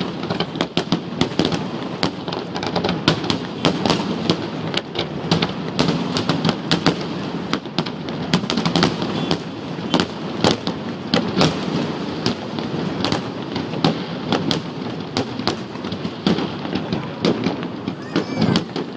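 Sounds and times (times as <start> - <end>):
fireworks bangs and crackles: 0.0 - 18.9.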